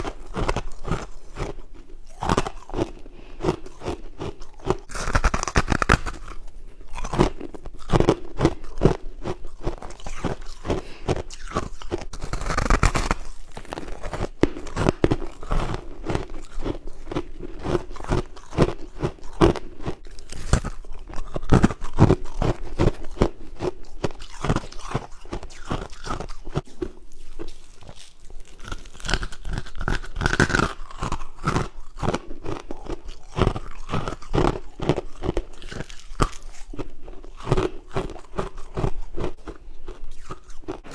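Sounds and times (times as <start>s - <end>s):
crisp chewing crunches: 0.0s - 40.9s.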